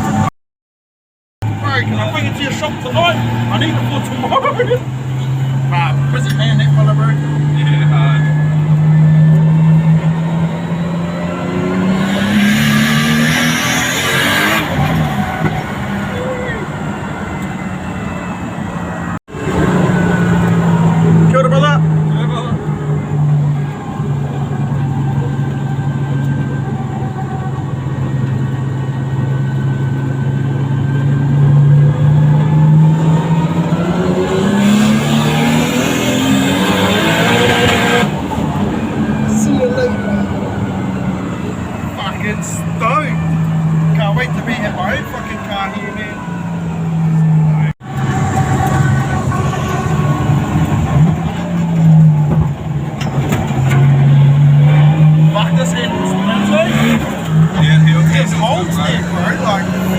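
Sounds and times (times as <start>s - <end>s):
car engine revving: 1.4s - 59.9s.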